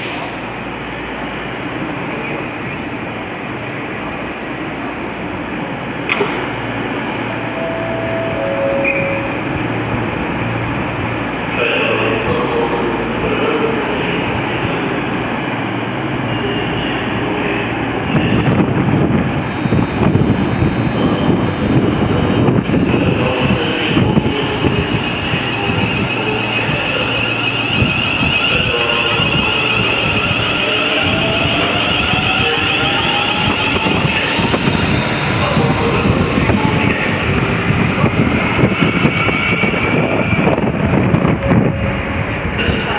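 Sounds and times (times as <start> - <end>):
train diesel engines running: 0.0 - 42.9.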